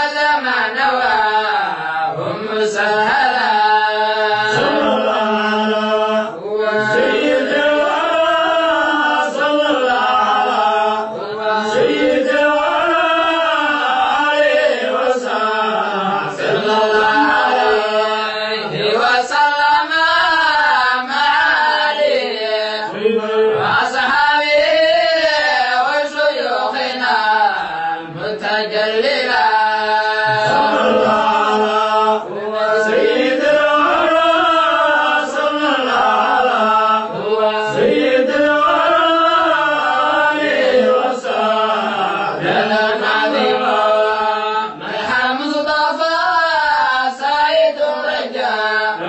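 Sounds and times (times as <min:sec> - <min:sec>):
person chanting devotional poem: 0:00.0 - 0:49.0.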